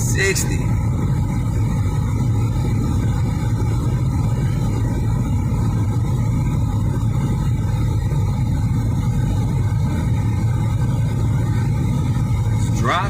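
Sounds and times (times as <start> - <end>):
air conditioning: 0.0 - 13.0
car engine humming: 0.0 - 13.0.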